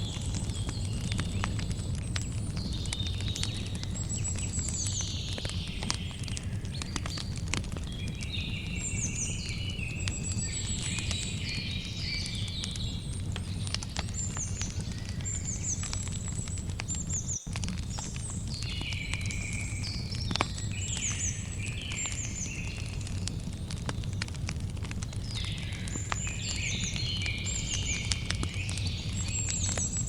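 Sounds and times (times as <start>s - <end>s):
birds chirping: 0.0s - 30.0s
campfire crackling: 0.0s - 30.0s.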